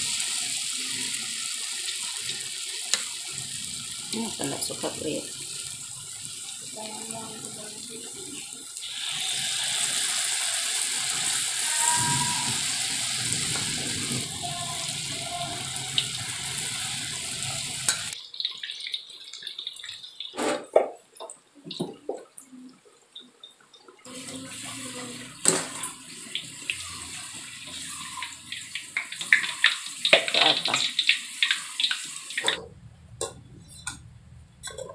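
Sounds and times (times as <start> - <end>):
food sizzling in hot oil: 0.0 - 20.6, 24.0 - 32.6.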